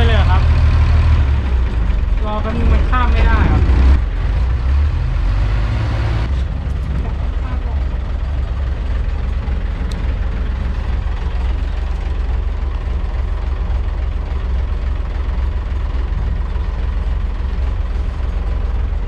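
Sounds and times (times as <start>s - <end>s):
boat diesel engine rumbling: 0.0s - 19.0s.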